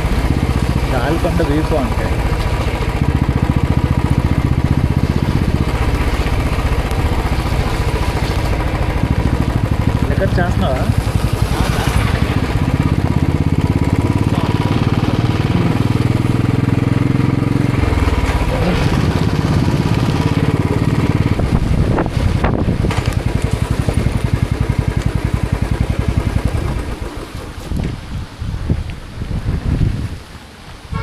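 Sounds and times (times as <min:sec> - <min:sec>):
motorcycle engine riding: 0:00.0 - 0:31.0.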